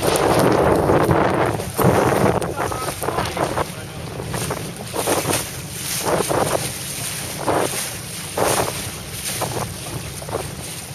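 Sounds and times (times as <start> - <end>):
water rushing along boat hull: 0.0 - 10.9
wind buffeting microphone: 0.0 - 10.9.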